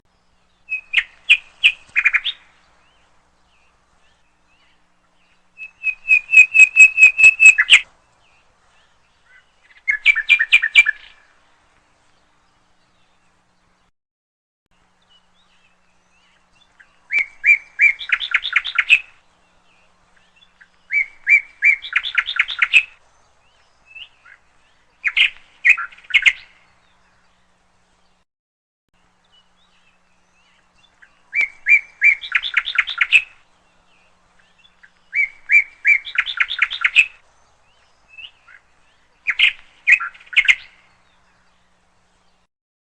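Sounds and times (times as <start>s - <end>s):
songbird chirping: 0.1s - 13.9s, 14.7s - 28.2s, 29.0s - 42.5s.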